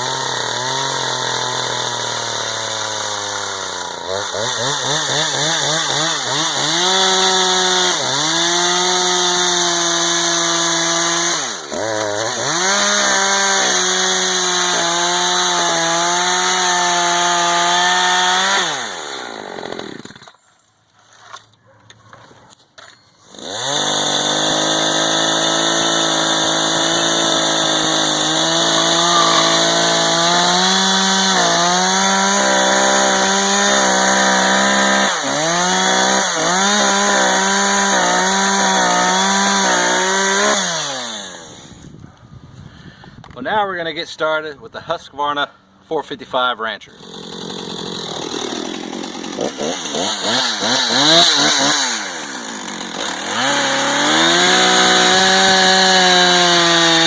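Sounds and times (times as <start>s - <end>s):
chainsaw cutting wood: 0.0s - 20.5s, 23.2s - 42.0s, 47.0s - 57.0s.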